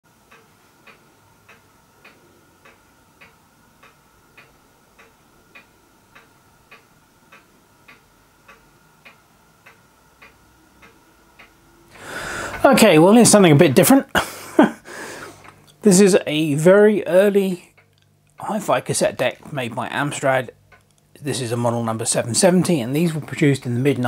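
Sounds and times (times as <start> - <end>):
clock ticking: 0.1 - 11.7, 12.3 - 24.0
faint high hum: 0.1 - 24.0.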